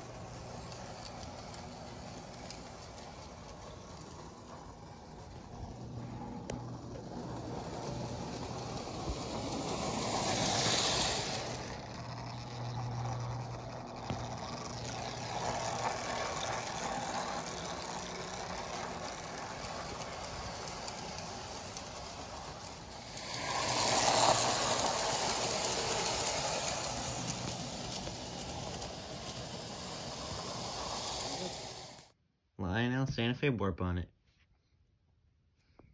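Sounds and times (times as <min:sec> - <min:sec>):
wheels rattling over rails: 0:00.0 - 0:32.1
toy train humming: 0:00.0 - 0:32.2.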